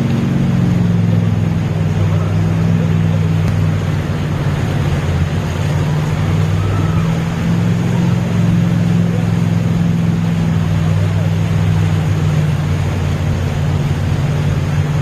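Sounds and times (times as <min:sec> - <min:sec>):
heavy rain: 0:00.0 - 0:15.0
vehicle engine droning: 0:00.0 - 0:15.0.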